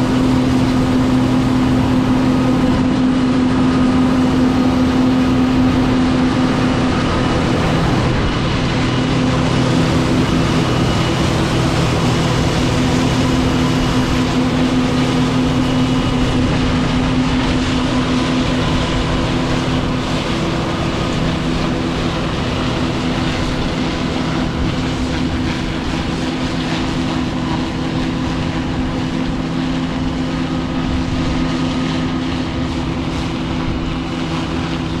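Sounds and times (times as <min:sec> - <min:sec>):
combine harvester droning: 0:00.0 - 0:35.0.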